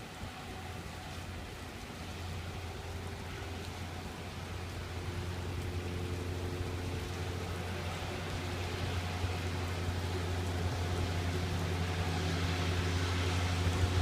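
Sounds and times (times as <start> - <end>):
constant low hum: 0.0 - 14.0
steady rain hiss: 0.0 - 14.0.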